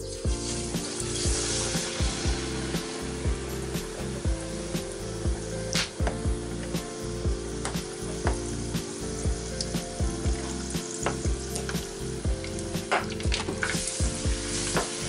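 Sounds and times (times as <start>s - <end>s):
background music with steady beat: 0.0s - 15.0s
oil sizzling in a pot: 0.0s - 15.0s.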